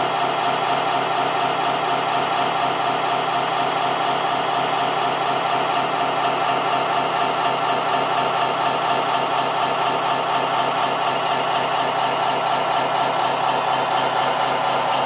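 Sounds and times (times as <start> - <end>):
model engine running: 0.0 - 15.0.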